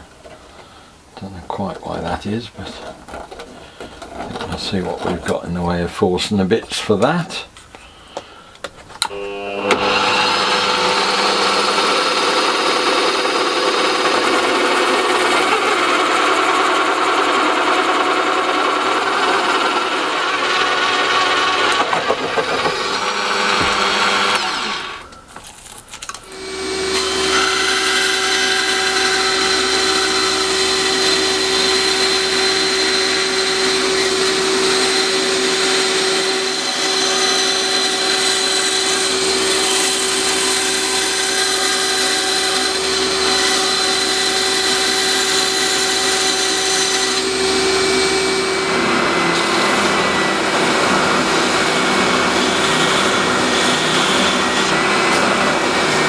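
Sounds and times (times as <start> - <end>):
bandsaw motor humming: 9.0 - 25.2, 26.3 - 56.0
belt sander running: 9.0 - 25.2, 26.3 - 56.0
drill press running: 9.0 - 25.2, 26.2 - 56.0.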